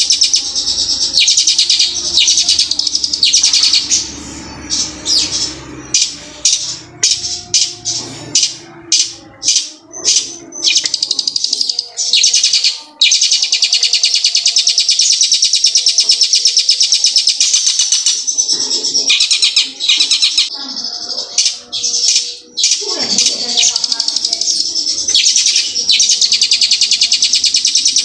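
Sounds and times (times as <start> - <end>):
bird singing with trills: 0.0 - 28.0.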